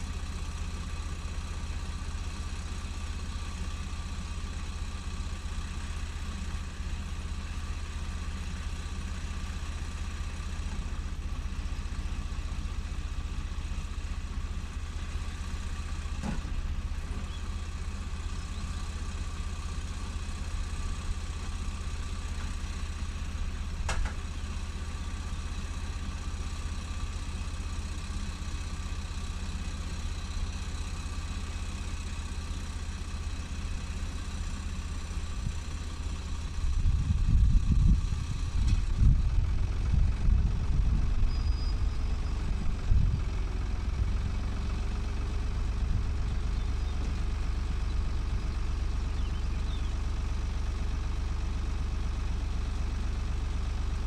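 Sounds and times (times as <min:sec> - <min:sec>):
diesel tractor engine idling: 0:00.0 - 0:54.0.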